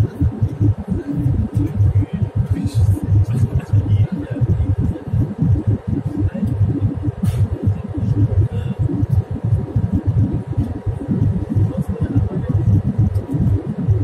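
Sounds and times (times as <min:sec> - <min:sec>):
jet engine cabin rumble: 0:00.0 - 0:14.0.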